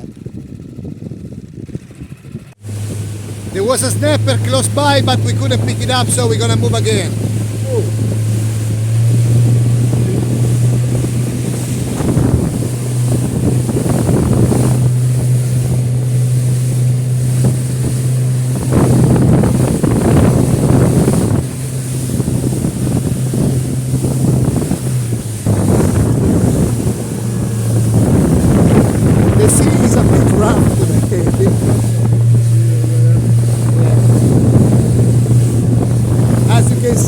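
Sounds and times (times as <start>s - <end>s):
outboard motor droning: 0.0s - 37.0s
wind on microphone: 0.0s - 37.0s
waves washing: 2.5s - 37.0s.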